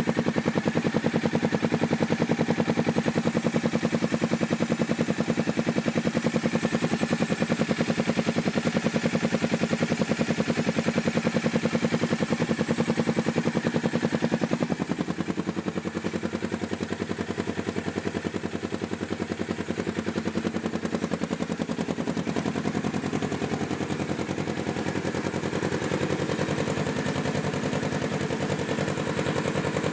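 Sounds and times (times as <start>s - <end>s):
engine running with exhaust pulses: 0.0s - 29.9s.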